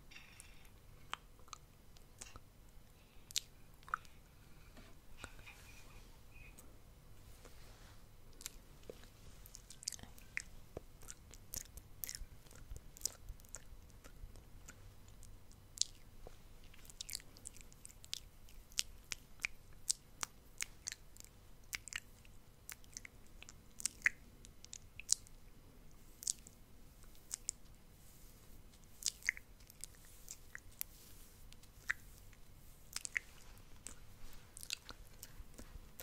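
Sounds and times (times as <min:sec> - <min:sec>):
tongue and lip clicks: 0:00.1 - 0:04.2, 0:08.3 - 0:27.8, 0:28.7 - 0:36.0.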